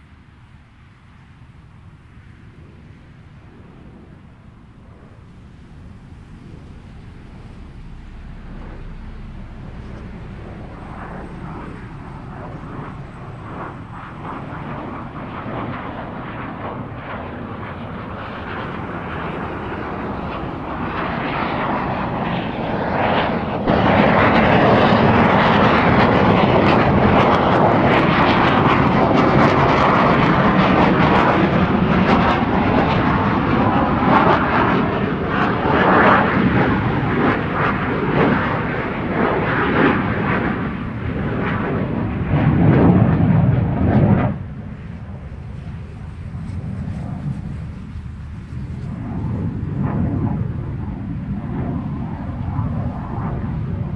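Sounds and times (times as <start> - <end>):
jet engine flyby: 0.0 - 53.9
afterburner roar: 1.6 - 53.9.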